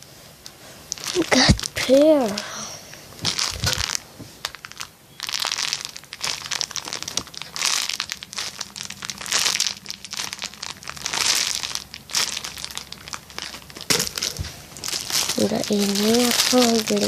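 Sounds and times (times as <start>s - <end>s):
squishy toy crinkling: 0.9s - 2.4s, 3.2s - 17.0s.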